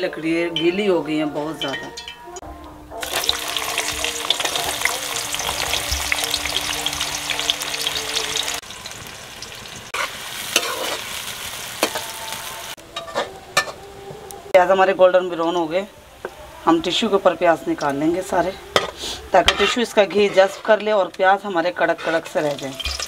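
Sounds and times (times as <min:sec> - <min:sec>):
onions sizzling in hot oil: 0:03.0 - 0:13.9, 0:14.6 - 0:23.0.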